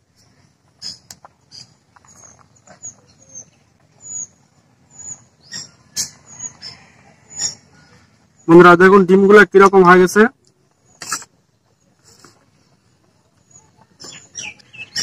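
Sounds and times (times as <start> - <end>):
small bird chirping: 0.2 - 8.5, 10.4 - 15.0.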